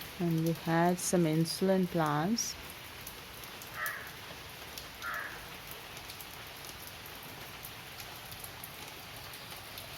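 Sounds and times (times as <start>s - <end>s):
steady rain falling: 0.0s - 9.9s
water drips ticking: 0.0s - 9.9s.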